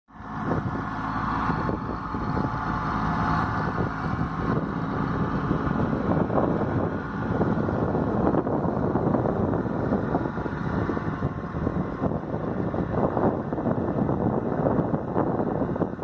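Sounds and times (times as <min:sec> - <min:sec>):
tractor diesel engine running: 0:00.1 - 0:16.0.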